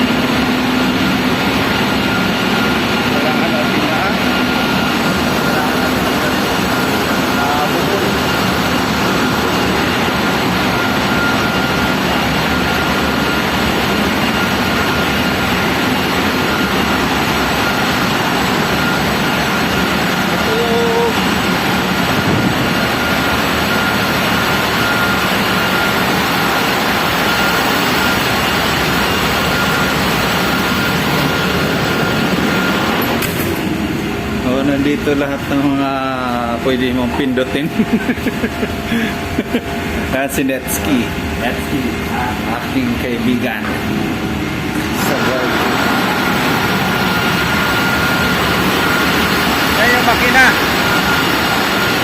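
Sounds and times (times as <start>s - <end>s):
faint steady whine: 0.0s - 52.0s
large engine roaring: 0.0s - 52.0s.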